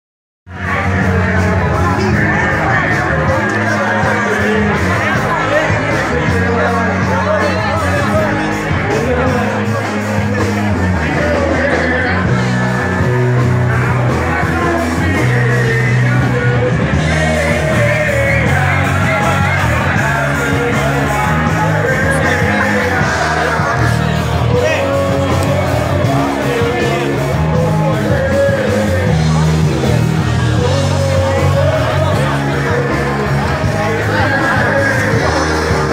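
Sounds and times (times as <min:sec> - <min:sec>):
bass line: 0:00.5 - 0:35.9
loud rock music with singing: 0:00.5 - 0:35.9.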